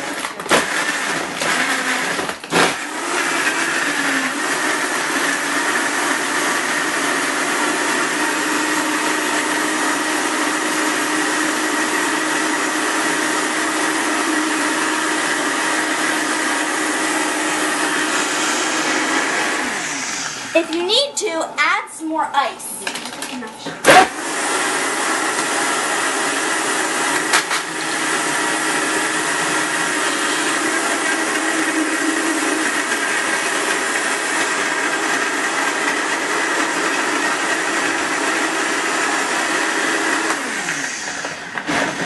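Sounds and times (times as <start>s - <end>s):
blender crushing ice: 0.0s - 20.4s, 22.8s - 42.0s.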